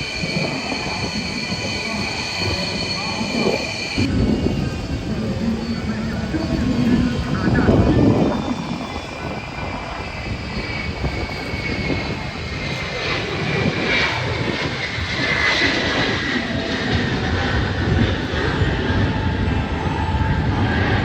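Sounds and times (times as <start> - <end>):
jet aircraft engine rumble and whine: 0.0 - 21.0.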